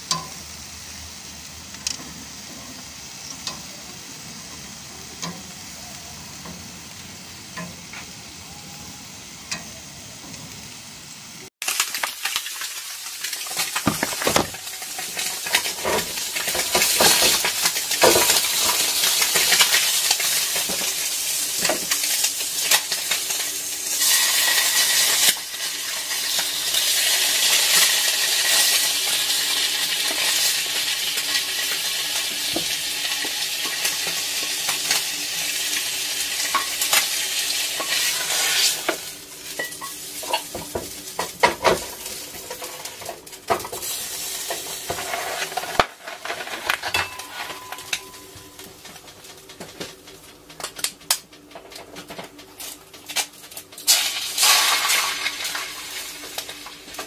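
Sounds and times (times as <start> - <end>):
food sizzling in a pan: 0.0 - 51.5, 52.3 - 57.0.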